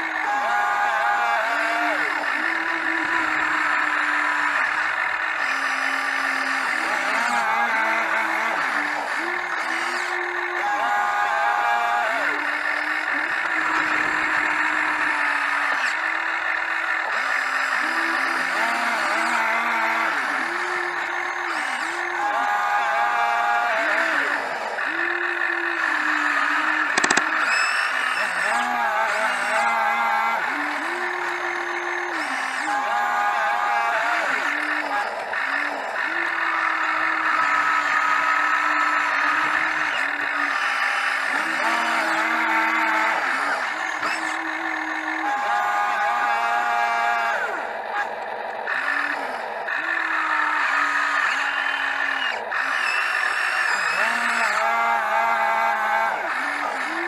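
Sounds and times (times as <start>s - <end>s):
excavator engine whine: 0.0s - 57.0s.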